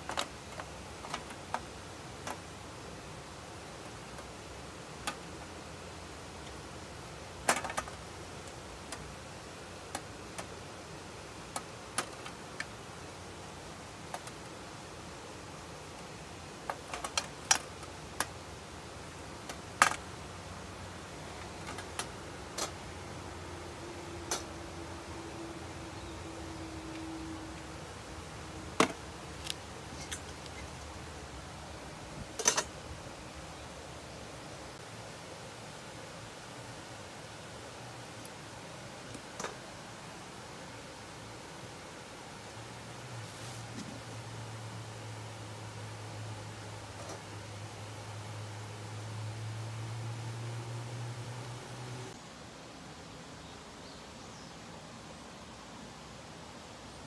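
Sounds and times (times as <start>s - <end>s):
faint hum: 0.0s - 54.6s
faint hiss: 0.0s - 57.0s.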